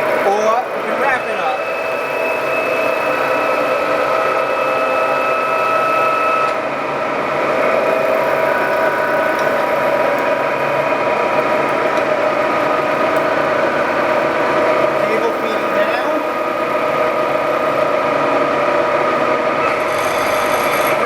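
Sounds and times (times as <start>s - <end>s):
gear whine: 0.0s - 21.0s
milling machine running: 0.0s - 21.0s.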